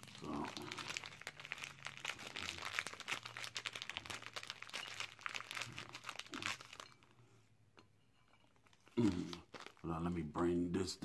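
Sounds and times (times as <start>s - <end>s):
wrapper crinkling: 0.0s - 7.2s, 8.5s - 10.4s.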